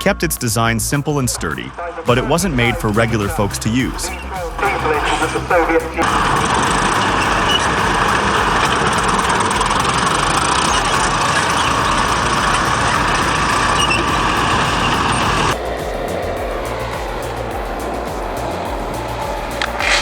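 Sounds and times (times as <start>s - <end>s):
heavy machine running: 2.1s - 20.0s.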